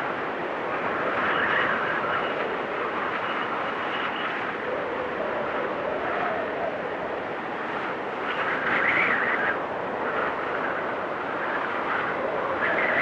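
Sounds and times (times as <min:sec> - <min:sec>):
strong wind howling: 0:00.0 - 0:13.0.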